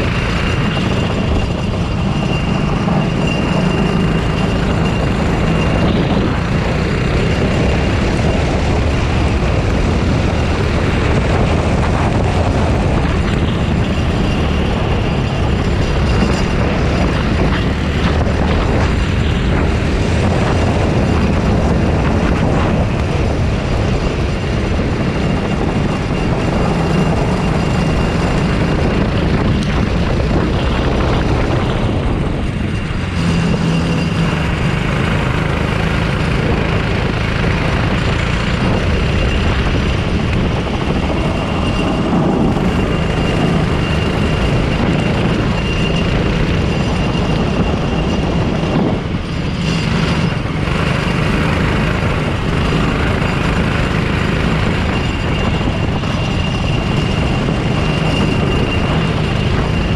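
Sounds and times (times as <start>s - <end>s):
kart engine running hard: 0.0s - 59.9s
wind and road noise: 0.0s - 59.9s.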